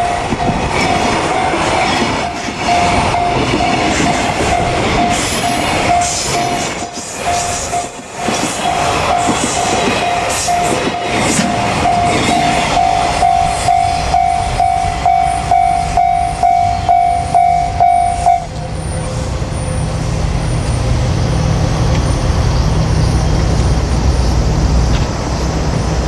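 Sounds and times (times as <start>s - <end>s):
level-crossing alarm dinging: 0.0s - 23.5s.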